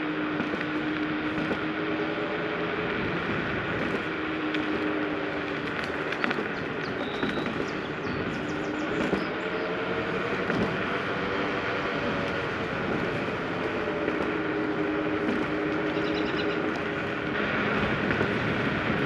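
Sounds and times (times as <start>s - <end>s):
electric scooter motor whine: 0.0s - 19.0s
tyre and wind rushing: 0.0s - 19.0s.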